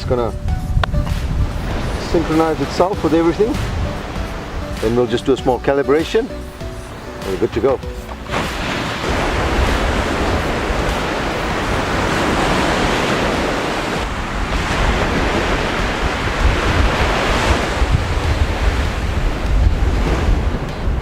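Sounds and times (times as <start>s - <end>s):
surf washing in: 0.0s - 21.0s
wind buffeting microphone: 0.0s - 21.0s.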